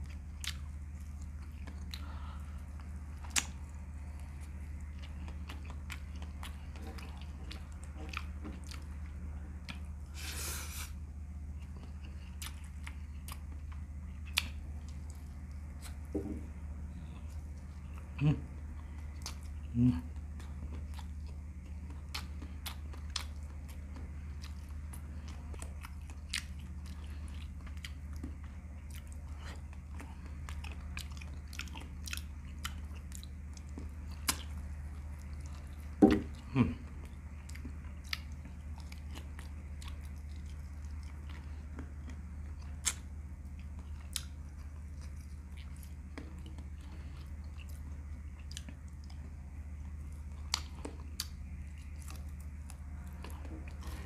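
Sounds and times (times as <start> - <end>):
man chewing and lip-smacking: 0.0 - 54.0.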